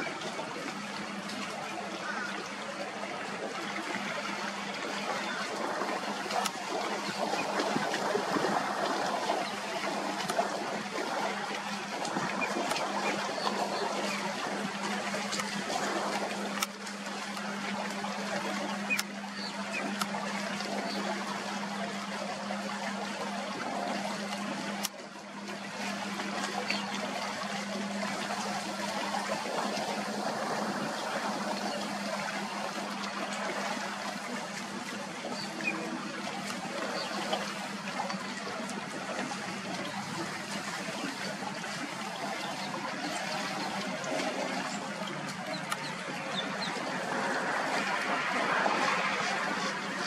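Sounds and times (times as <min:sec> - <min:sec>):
low steady hum: 0:00.0 - 0:50.0
rushing water-like noise: 0:00.0 - 0:50.0.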